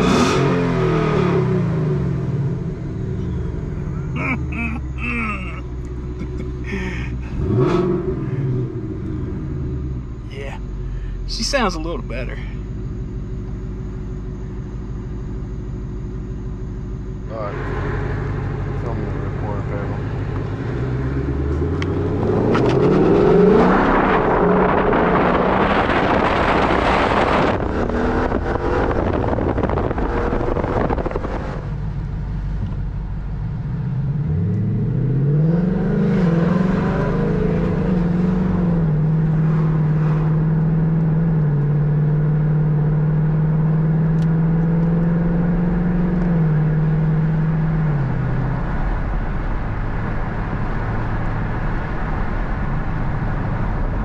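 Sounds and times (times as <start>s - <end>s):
car engine roaring under acceleration: 0.0s - 54.0s.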